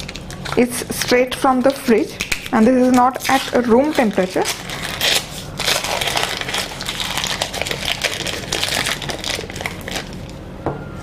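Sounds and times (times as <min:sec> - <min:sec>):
paper wrapper crinkling: 0:00.0 - 0:10.4.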